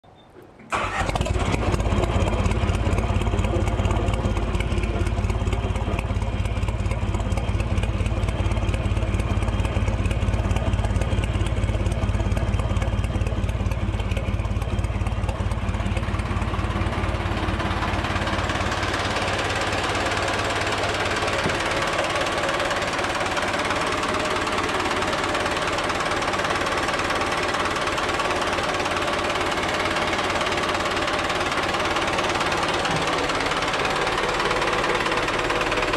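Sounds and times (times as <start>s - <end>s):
engine clatter: 0.4s - 35.9s
boat engine running: 0.7s - 35.9s.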